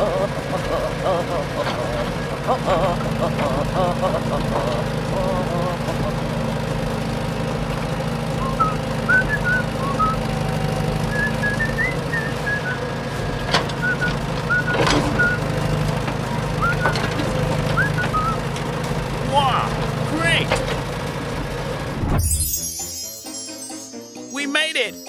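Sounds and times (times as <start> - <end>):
vehicle engine running: 0.0 - 22.8.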